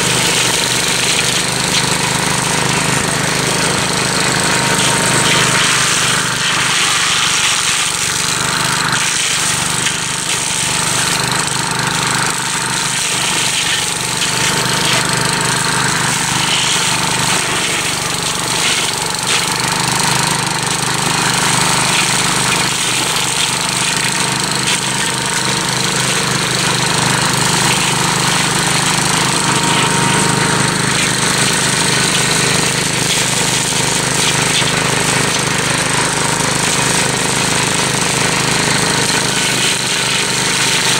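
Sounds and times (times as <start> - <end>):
mower cutting brush: 0.0 - 40.9
tractor engine running under load: 0.0 - 40.9.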